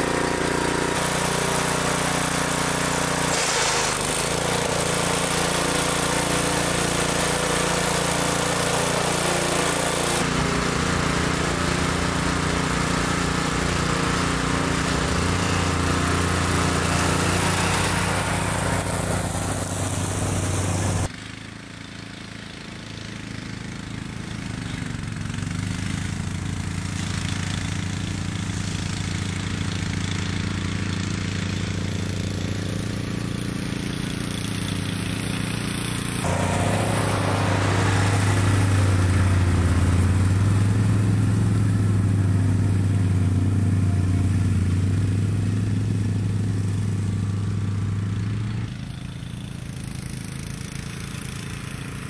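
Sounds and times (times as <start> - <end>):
engines running while mowing: 0.0 - 52.0.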